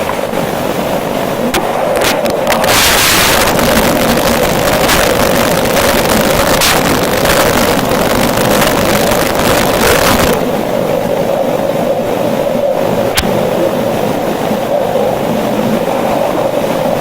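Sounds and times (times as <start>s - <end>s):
mid-pitched hum: 0.0s - 17.0s
steady hiss and low rumble: 0.0s - 17.0s.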